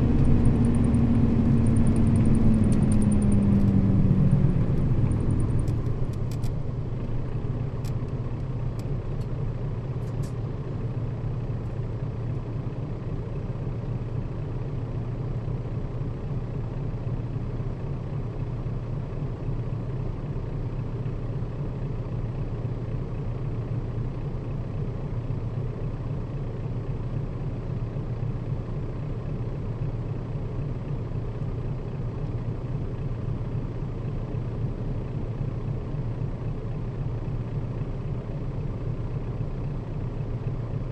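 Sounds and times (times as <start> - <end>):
bus engine and road drone: 0.0 - 40.9.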